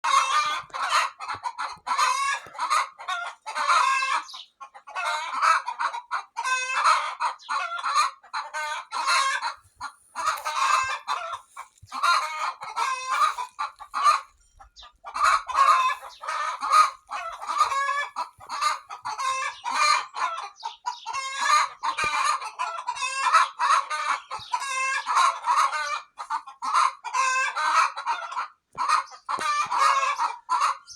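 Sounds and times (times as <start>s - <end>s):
hens clucking and cackling: 0.0s - 30.9s.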